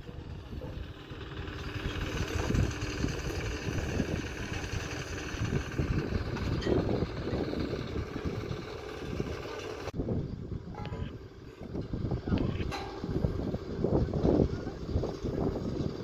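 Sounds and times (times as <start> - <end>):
engine-like rumble: 0.0 - 16.0.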